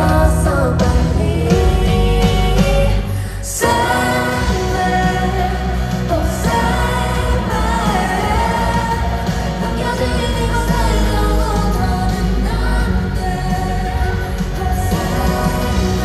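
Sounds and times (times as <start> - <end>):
women singing pop song: 0.0 - 16.0.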